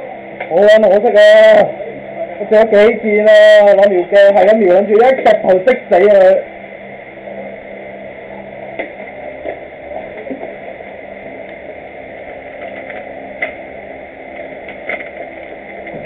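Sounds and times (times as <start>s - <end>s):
room hum and hiss: 0.0s - 16.0s.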